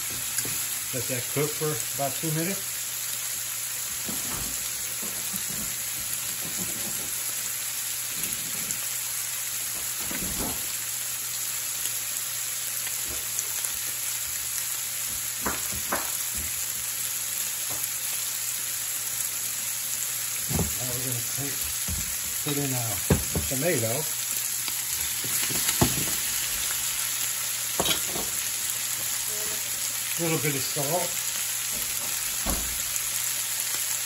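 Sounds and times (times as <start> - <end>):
shrimp sizzling in a frying pan: 0.0 - 34.0.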